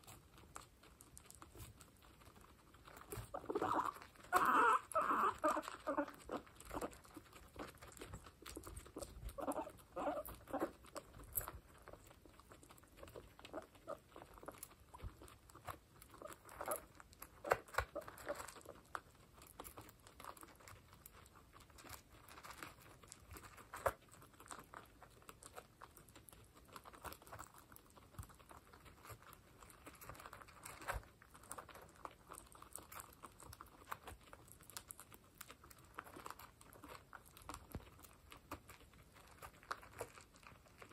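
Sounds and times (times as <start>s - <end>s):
guinea pigs crunching pellets: 0.0s - 40.9s.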